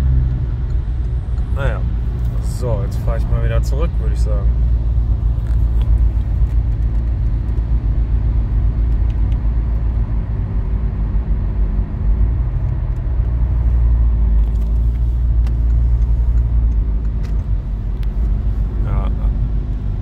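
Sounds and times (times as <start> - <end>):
diesel engine droning: 0.0 - 20.0
road rumble: 0.0 - 20.0.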